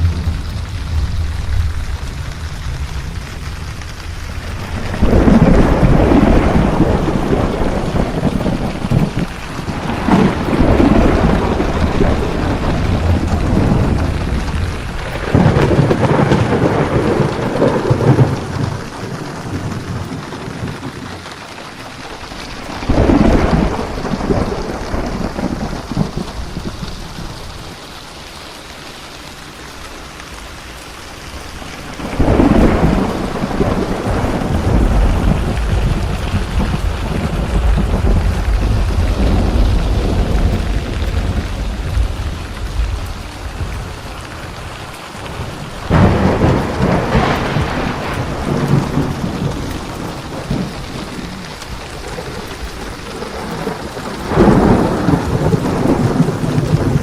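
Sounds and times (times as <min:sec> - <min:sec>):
steady rain falling: 0:00.0 - 0:57.0
thunder rumbling: 0:00.0 - 0:57.0.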